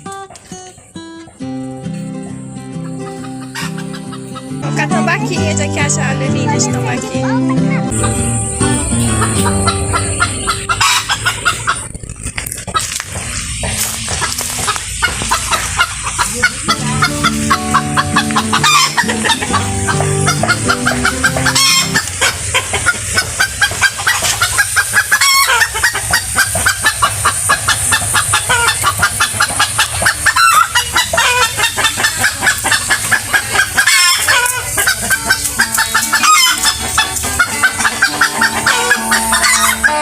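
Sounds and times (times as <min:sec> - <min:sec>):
birds calling rapidly: 0:01.6 - 0:06.7, 0:07.3 - 0:40.0.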